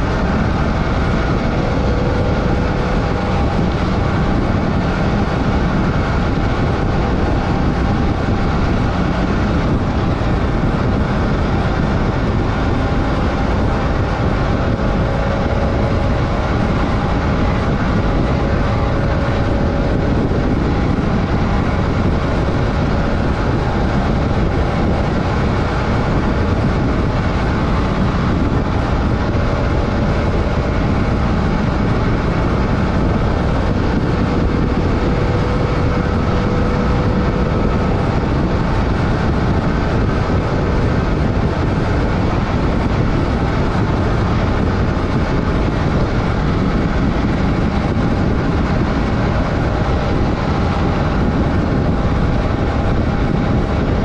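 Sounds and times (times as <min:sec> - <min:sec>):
motorcycle engine hum: 0:00.0 - 0:54.0
wind and road noise: 0:00.0 - 0:54.0.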